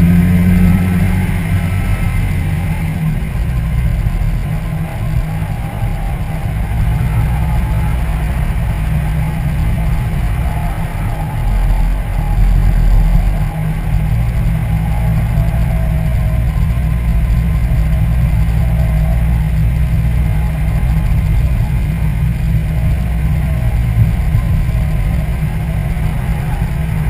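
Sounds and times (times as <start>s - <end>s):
car engine hum: 0.0s - 27.0s
tyre and road noise: 0.0s - 27.0s
wind buffeting microphone: 0.0s - 27.0s.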